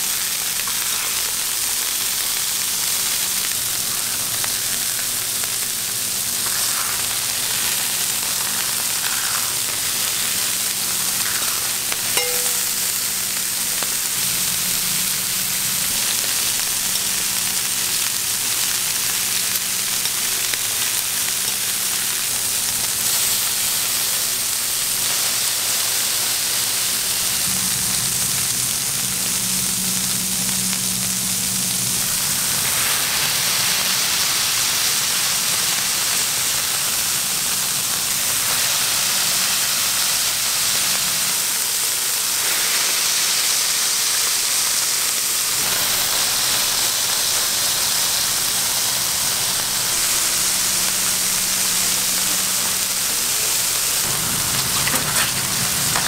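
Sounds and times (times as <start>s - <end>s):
meat sizzling on griddle: 0.0s - 56.0s.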